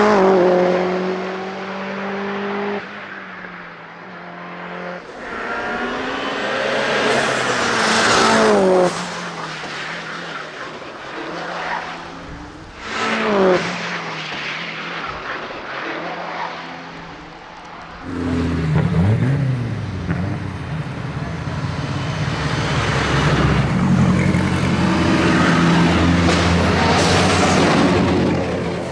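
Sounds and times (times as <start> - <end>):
racing car engine revving: 4.7 - 28.9.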